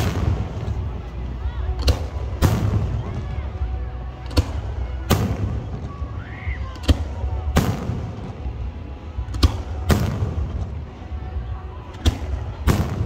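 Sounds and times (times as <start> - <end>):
fireworks bursting bangs: 0.0 - 1.2, 1.8 - 3.6, 4.3 - 11.0, 12.0 - 13.0.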